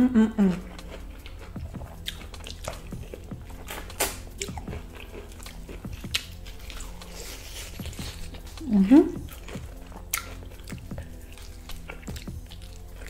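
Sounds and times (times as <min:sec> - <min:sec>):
chewing crispy fried chicken: 0:00.5 - 0:13.0.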